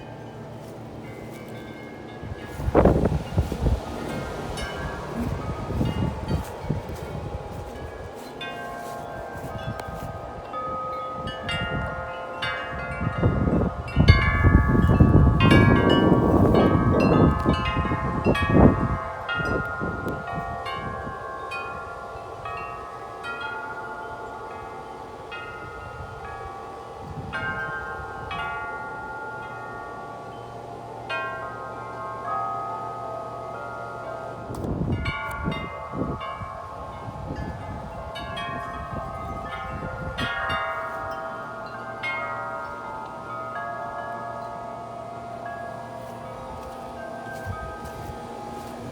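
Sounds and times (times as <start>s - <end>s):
low wind rumble: 0.0s - 23.0s, 24.2s - 28.7s, 34.2s - 48.9s
large wind chimes ringing: 0.0s - 48.9s.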